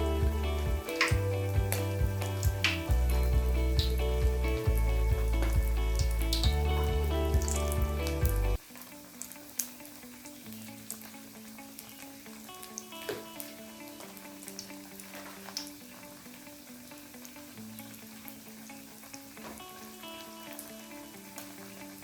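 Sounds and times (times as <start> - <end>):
background music with slow melody: 0.0 - 22.0
hot oil sizzling: 0.0 - 22.0.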